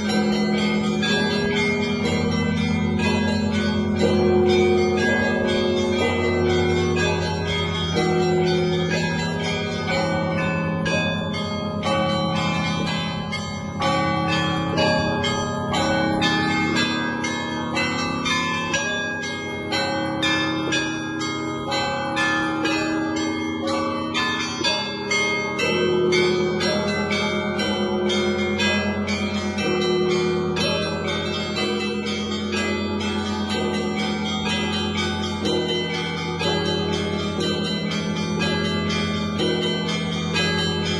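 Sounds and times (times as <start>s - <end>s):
large deep bells ringing: 0.0s - 40.9s.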